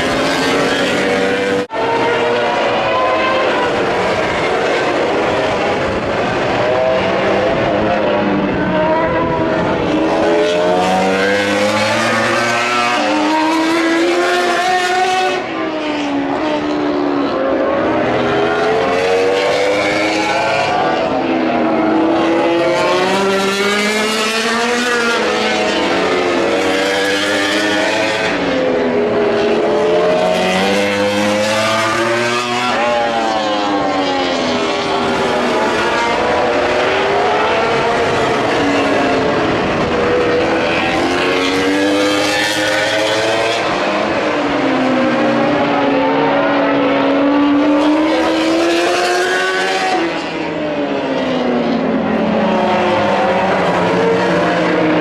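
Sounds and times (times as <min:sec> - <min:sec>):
racing motorcycle engines: 0:00.0 - 0:55.0.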